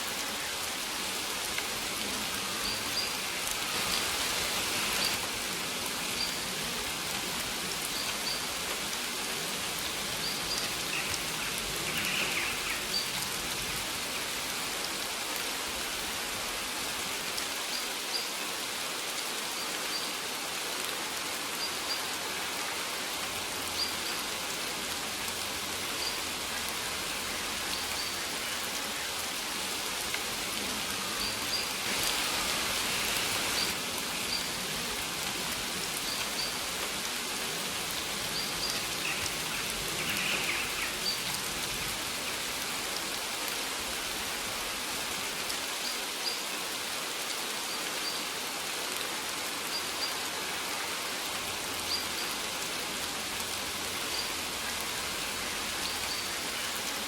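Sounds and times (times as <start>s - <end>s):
rain falling in an even hiss: 0.0s - 57.0s.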